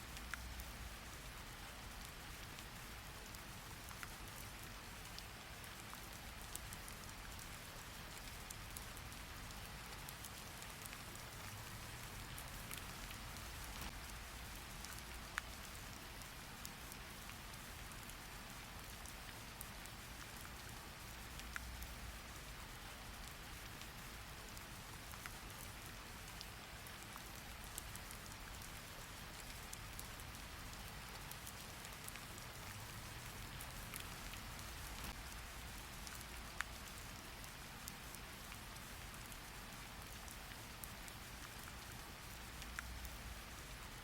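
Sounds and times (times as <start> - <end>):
steady rain hissing: 0.0 - 44.0.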